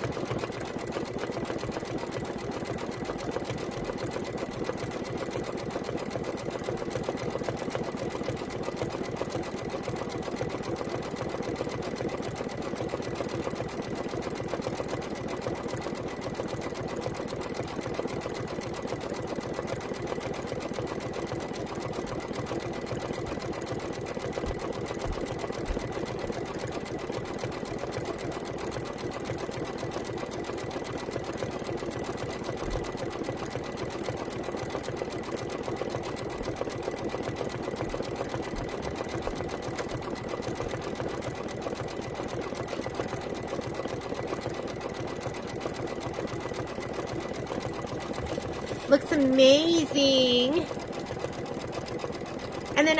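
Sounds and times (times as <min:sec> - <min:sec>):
embroidery machine stitching: 0:00.0 - 0:52.9.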